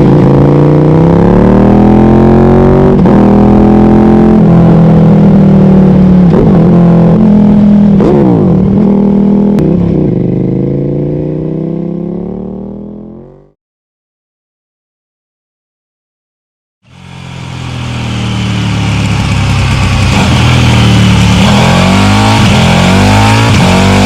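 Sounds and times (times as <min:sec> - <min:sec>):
motorcycle engine revving: 0:00.0 - 0:13.6, 0:16.9 - 0:24.0.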